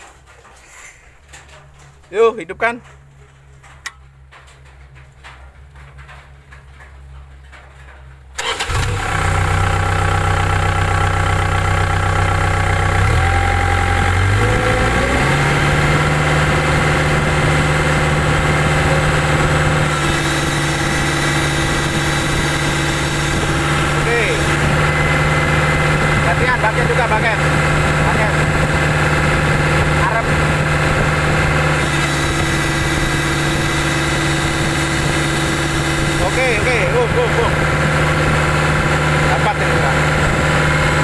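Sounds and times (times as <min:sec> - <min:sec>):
diesel engine starting and running: 0:00.0 - 0:41.0.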